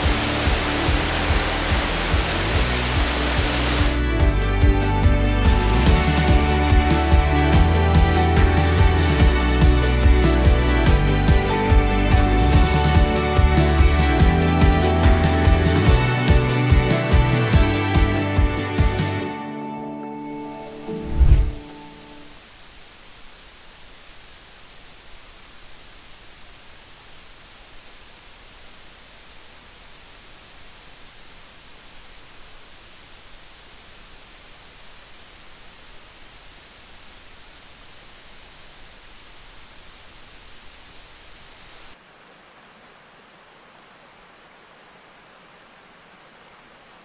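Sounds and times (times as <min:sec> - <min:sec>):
steady forest hiss: 0:00.0 - 0:19.4, 0:20.1 - 0:47.0.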